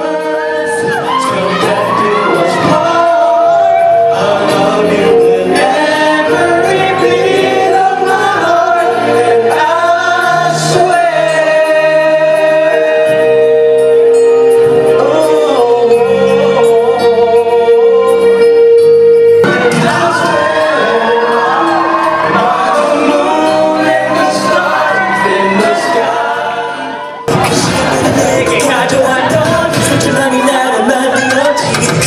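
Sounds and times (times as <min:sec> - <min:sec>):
man singing pop ballad: 0:00.0 - 0:14.0, 0:14.6 - 0:18.6, 0:19.4 - 0:32.0
sustained backing chords: 0:01.3 - 0:30.5.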